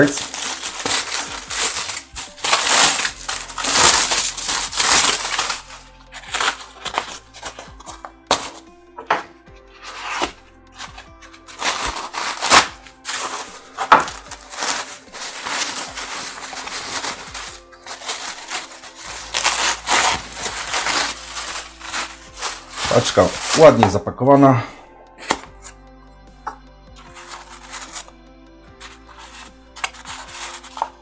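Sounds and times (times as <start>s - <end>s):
foil and paper crumpling: 0.0s - 9.2s, 9.8s - 24.0s, 27.0s - 28.1s, 28.8s - 31.0s
background music: 0.0s - 31.0s.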